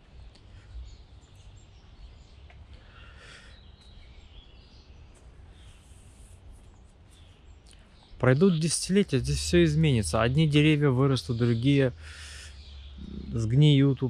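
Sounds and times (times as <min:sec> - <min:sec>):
low outdoor rumble: 0:00.0 - 0:03.2, 0:04.9 - 0:14.0
small birds chirping: 0:00.0 - 0:14.0.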